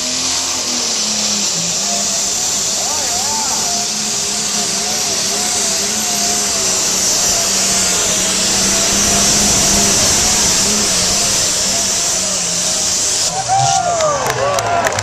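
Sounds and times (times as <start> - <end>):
tractor diesel engine under load: 0.0 - 13.4
strong high hiss: 0.0 - 15.0.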